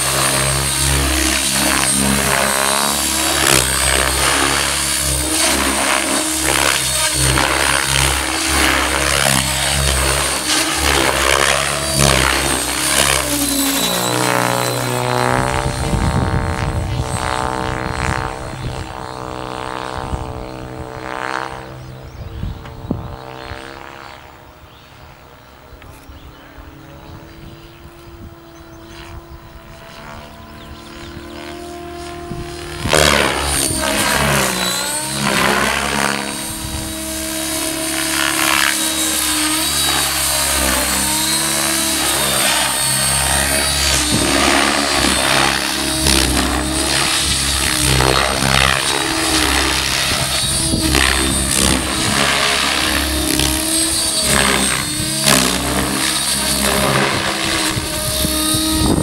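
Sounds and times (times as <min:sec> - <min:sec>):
model helicopter rotor whine: 0:00.0 - 0:59.0.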